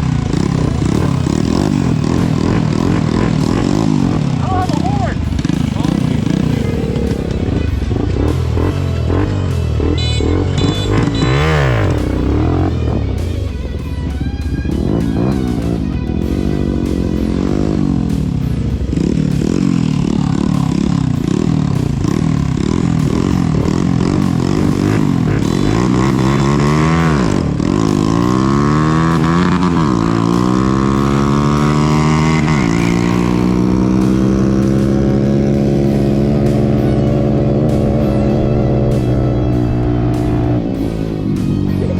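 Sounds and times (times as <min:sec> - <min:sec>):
mini bike engine revving: 0:00.0 - 0:41.9.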